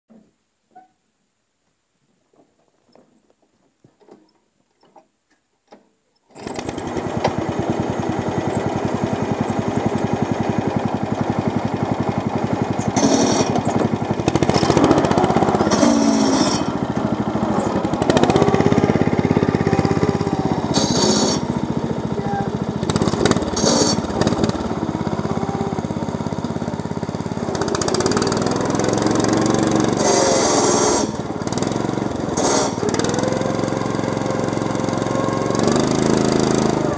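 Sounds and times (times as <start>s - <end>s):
riding mower engine running: 6.3s - 36.9s.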